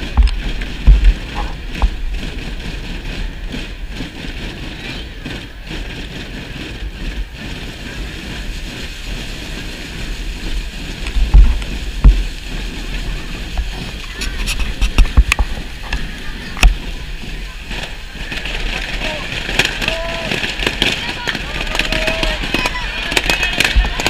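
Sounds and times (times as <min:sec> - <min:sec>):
low thumps: 0:00.0 - 0:24.0
wind buffeting microphone: 0:00.0 - 0:24.0
crowd of children: 0:02.6 - 0:24.0.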